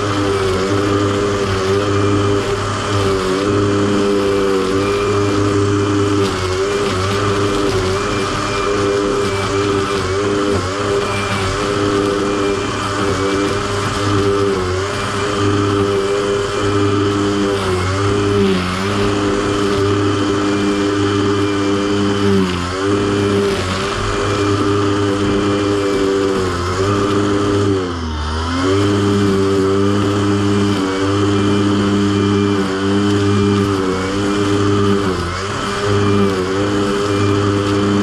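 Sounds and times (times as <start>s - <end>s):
riding lawn mower engine running: 0.0s - 38.0s.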